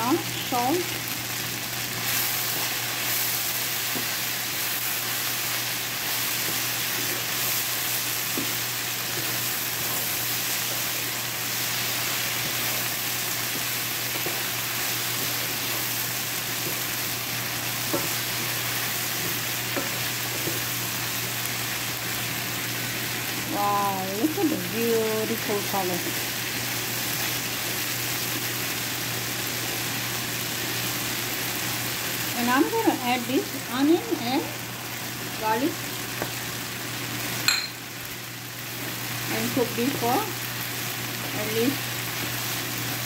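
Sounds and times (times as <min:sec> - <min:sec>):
okra sizzling in a frying pan: 0:00.0 - 0:43.0.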